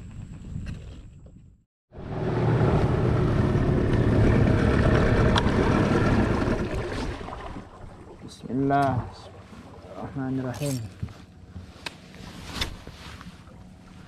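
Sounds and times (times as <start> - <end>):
boat engine running: 2.0 - 14.0.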